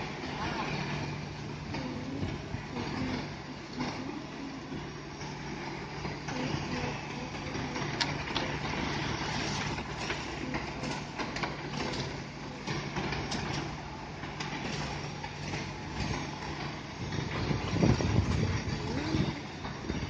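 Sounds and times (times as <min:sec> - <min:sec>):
mixer drum rattling: 0:00.0 - 0:20.0.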